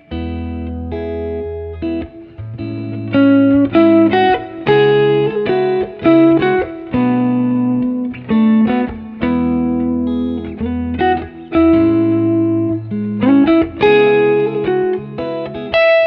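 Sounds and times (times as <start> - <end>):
instrumental guitar melody: 0.0 - 16.0.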